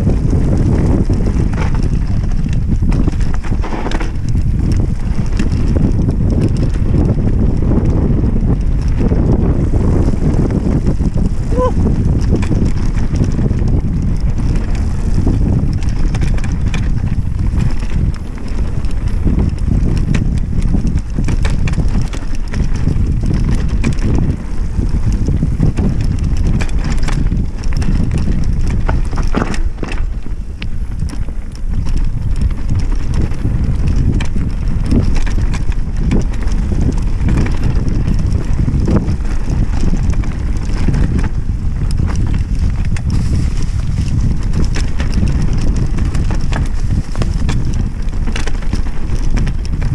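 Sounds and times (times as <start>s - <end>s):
bike clicking and rattling: 0.0s - 49.9s
tyres rumbling on dirt: 0.0s - 49.9s
wind buffeting microphone: 0.0s - 49.9s.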